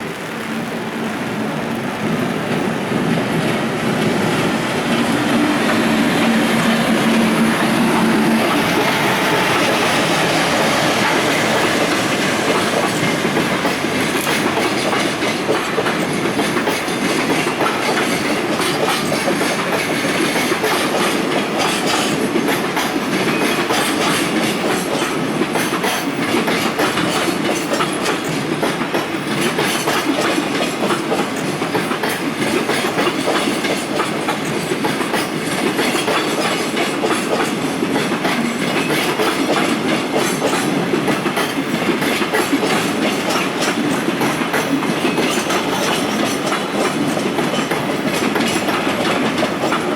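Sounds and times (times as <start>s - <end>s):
train low hum: 0.0s - 49.9s
train wheels clickety-clack: 0.0s - 49.9s.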